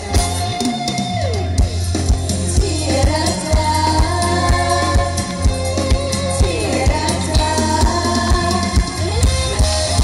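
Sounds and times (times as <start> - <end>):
bass line: 0.0 - 10.0
drum kit beat: 0.0 - 10.0
live amplified band music: 0.0 - 10.0.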